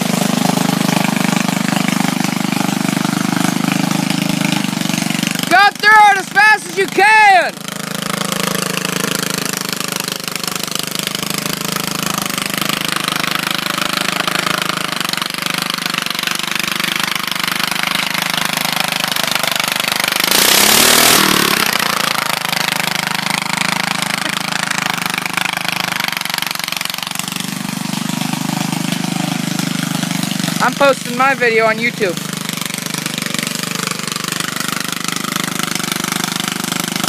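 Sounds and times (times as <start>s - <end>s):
lawn mower engine running: 0.0s - 37.0s.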